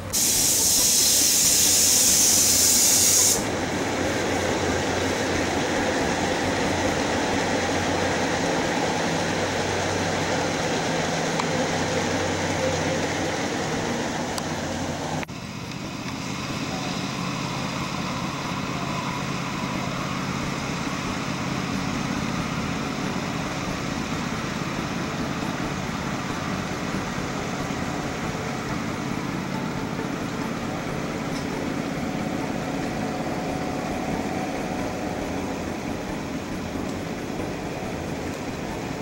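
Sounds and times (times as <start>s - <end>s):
model train running hum: 0.0s - 39.0s.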